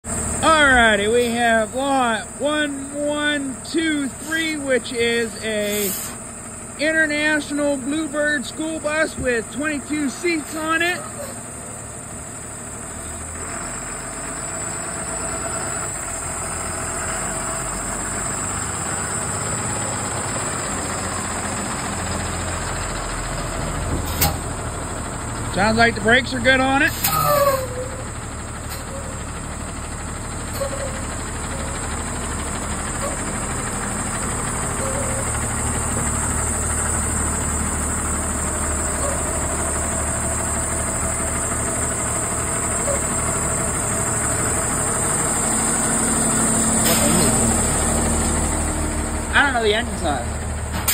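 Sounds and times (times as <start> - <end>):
bus engine idling: 0.0 - 50.9.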